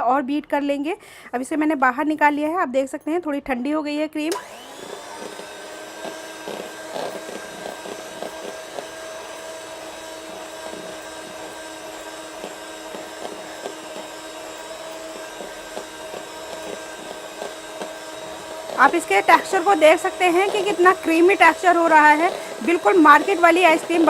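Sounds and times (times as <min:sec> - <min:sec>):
electric beater whipping cream: 0:04.3 - 0:24.0.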